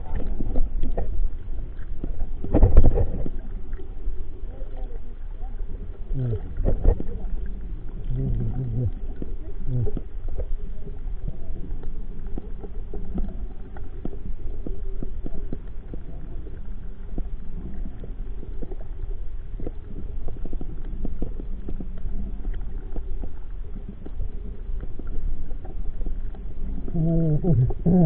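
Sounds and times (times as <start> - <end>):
muffled underwater churning: 0.0 - 28.0.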